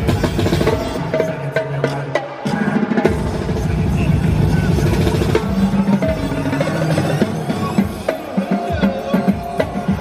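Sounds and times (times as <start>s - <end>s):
live drumming and percussion: 0.0s - 10.0s.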